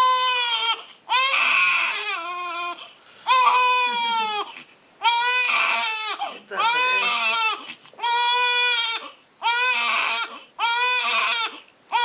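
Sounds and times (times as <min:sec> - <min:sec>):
newborn baby crying: 0:00.0 - 0:12.0.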